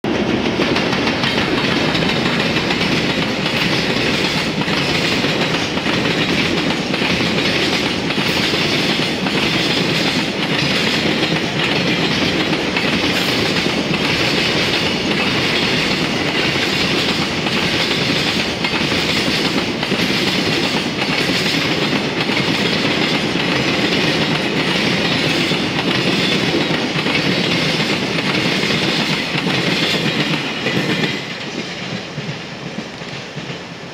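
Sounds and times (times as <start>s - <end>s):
freight train wheels rushing: 0.0s - 33.9s
wheels clacking over rail joints: 0.2s - 33.6s.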